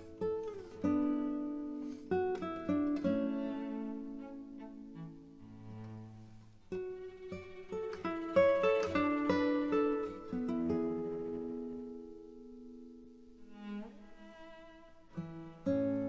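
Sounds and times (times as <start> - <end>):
plucked string music: 0.0 - 16.0.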